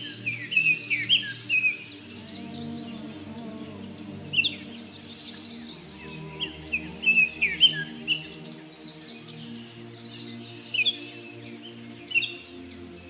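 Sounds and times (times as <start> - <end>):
birds chirping: 0.0 - 13.0
soft sustained background music: 0.0 - 13.0.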